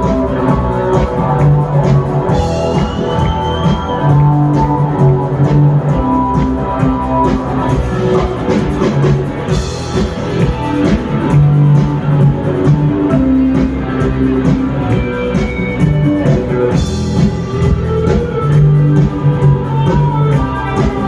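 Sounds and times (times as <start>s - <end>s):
bass guitar: 0.0s - 21.0s
drum kit: 0.0s - 21.0s
electric guitar: 0.0s - 21.0s.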